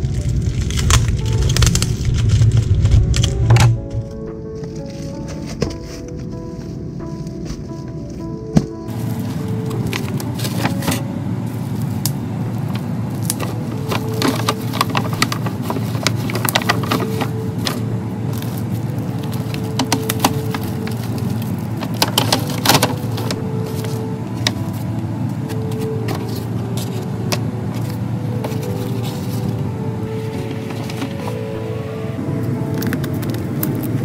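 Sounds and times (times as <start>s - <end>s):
low rumble: 0.0s - 34.0s
paper bags and bubble wrap rustling: 0.0s - 34.0s.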